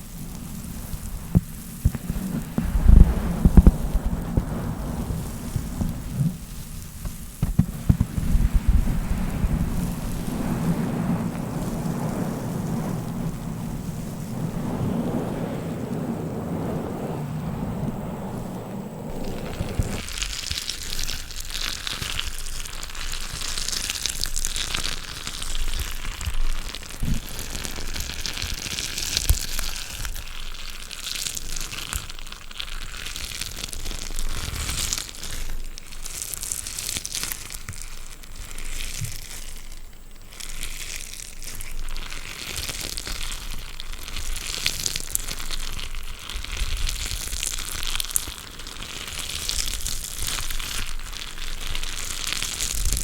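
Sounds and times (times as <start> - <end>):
squeezed stress balls crinkling: 0.0 - 53.0.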